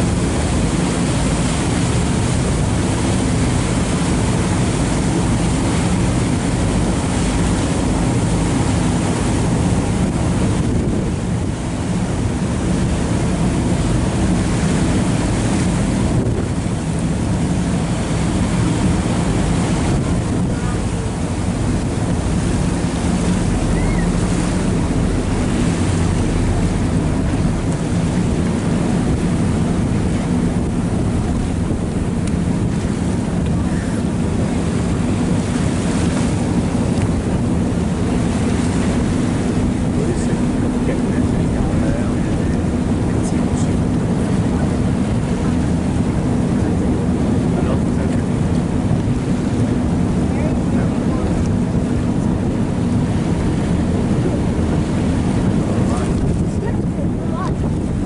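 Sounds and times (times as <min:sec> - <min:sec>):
boat engine droning: 0:00.0 - 0:58.0
water wash: 0:00.0 - 0:58.0
wind buffeting microphone: 0:00.0 - 0:58.0.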